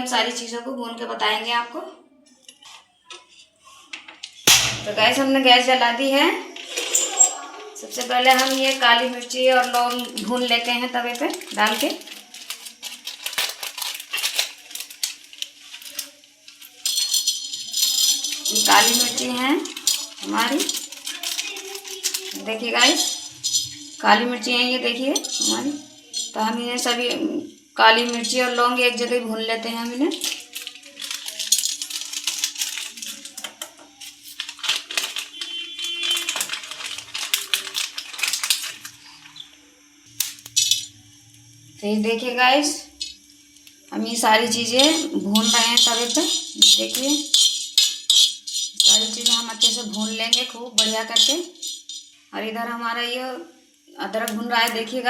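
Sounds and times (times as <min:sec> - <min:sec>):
faint steady hum: 0:00.0 - 0:55.0
peppercorns rattling on a griddle: 0:04.3 - 0:41.4, 0:42.1 - 0:52.8, 0:54.1 - 0:55.0.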